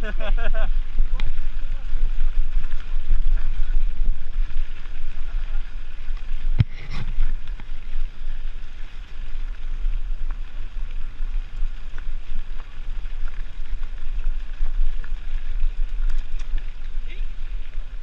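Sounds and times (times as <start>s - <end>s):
bike tyres rolling on trail: 0.0s - 18.0s
wind buffeting microphone: 0.0s - 18.0s
bike clicks and rattles: 0.1s - 18.0s.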